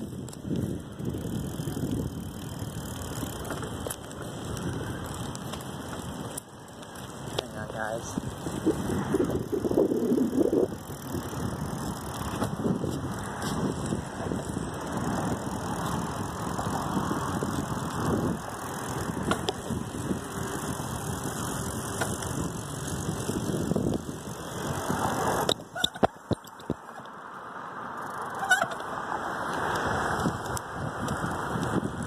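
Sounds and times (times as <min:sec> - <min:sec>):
wind rumbling on microphone: 0:00.0 - 0:26.9, 0:28.4 - 0:32.0.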